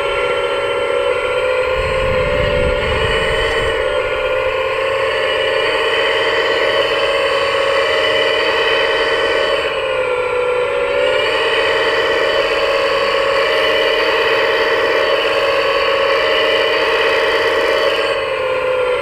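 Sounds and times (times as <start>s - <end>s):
hydraulic pump electric whine: 0.0s - 19.0s.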